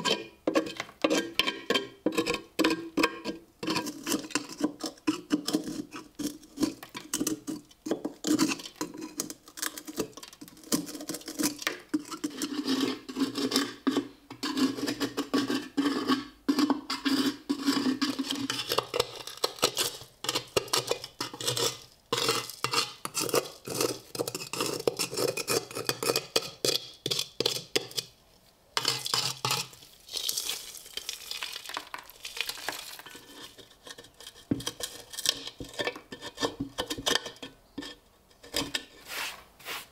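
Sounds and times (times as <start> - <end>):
metal scraping on steel helmet: 0.0 - 2.5, 3.1 - 28.1, 33.0 - 39.9.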